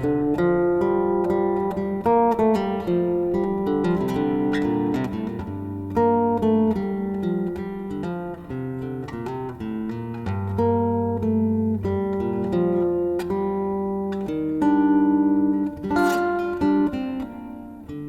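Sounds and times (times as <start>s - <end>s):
solo acoustic guitar: 0.0s - 18.0s.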